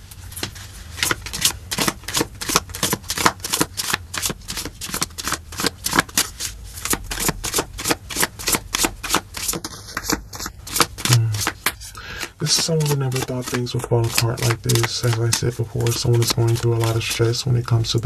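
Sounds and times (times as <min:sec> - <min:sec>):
cards being shuffled: 0:00.1 - 0:18.0.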